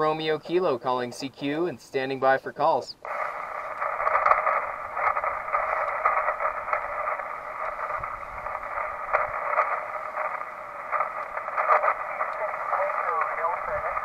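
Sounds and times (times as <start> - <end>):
radio static hiss: 0.0 - 14.0
faint crackles: 0.1 - 14.0.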